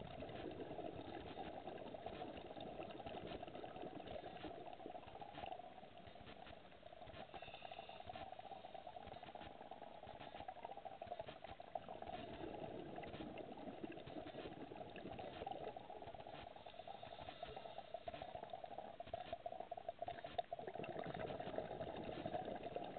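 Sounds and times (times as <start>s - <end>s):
faint scattered clicks and crackles: 0.0s - 22.9s.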